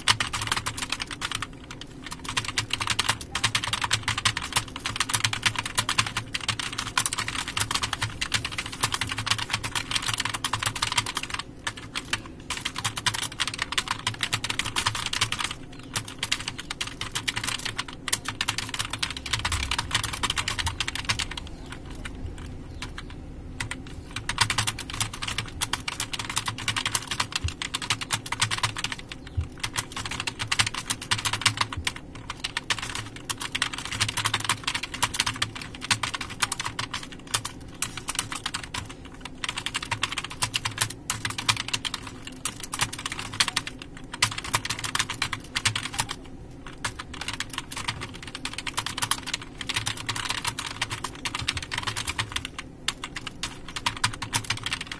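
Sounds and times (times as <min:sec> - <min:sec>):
fast typing on keyboard: 0:00.0 - 0:54.9.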